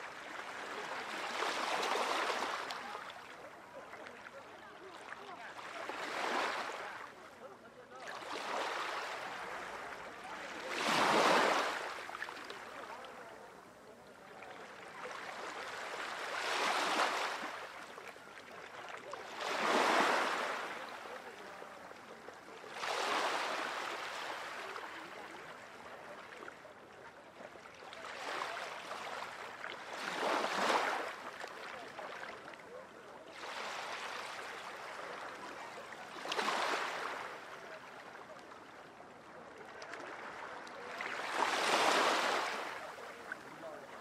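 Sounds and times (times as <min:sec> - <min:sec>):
small sea waves washing ashore: 0:00.0 - 0:44.0.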